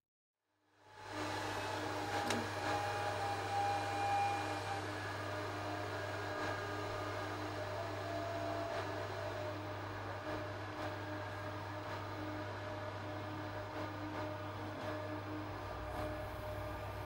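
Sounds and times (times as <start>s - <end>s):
server cooling fans whirring: 0.7s - 17.0s.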